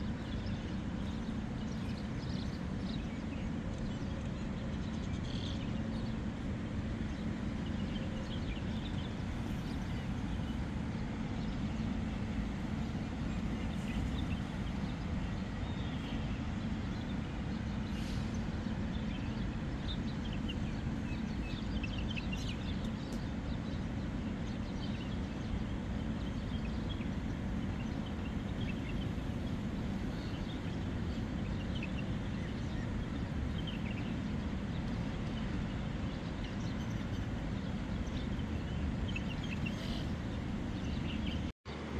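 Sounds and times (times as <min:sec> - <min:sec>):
birds chirping: 0:00.0 - 0:41.5
low outdoor rumble: 0:00.0 - 0:41.9.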